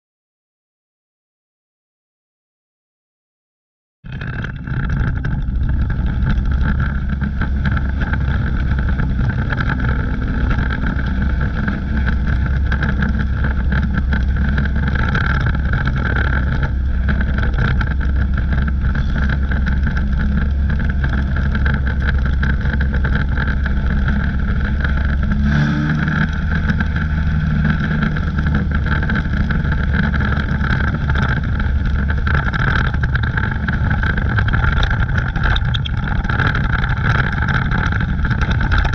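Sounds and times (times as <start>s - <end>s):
rattle: 4.1s - 38.9s
race car engine running hard: 4.2s - 38.9s
wind noise: 4.2s - 38.9s.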